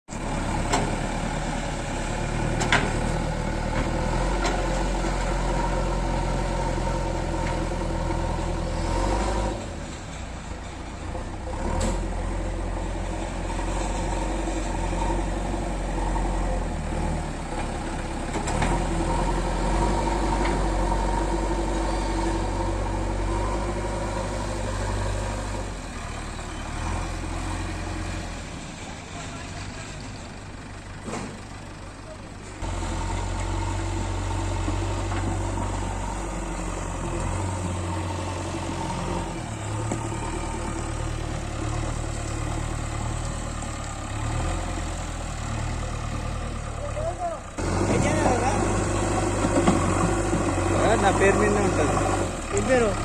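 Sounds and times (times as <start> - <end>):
backhoe diesel engine running: 0.1 - 53.0.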